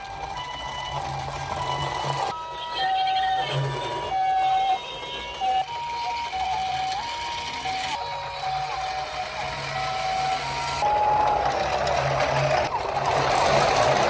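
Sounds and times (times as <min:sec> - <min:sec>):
siren with falling pitch: 0:00.0 - 0:14.0
two-tone hi-lo siren: 0:00.0 - 0:14.0.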